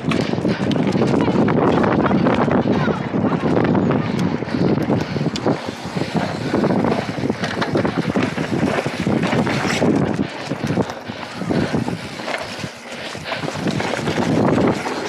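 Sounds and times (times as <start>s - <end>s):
bike rattling and knocking: 0.0s - 15.0s
tyres on loose dirt: 0.0s - 15.0s
wind buffeting microphone: 0.0s - 15.0s.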